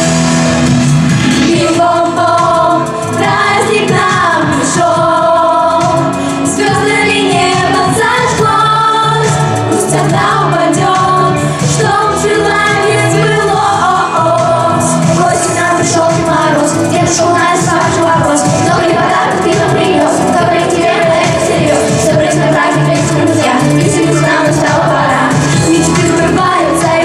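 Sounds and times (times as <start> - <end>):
pop ensemble singing: 0.0 - 27.0
pop instrumental with beat: 0.0 - 27.0.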